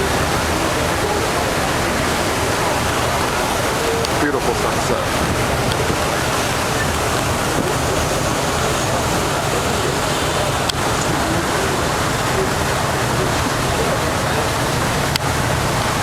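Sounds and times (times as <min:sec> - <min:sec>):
water rushing along hull: 0:00.0 - 0:16.0.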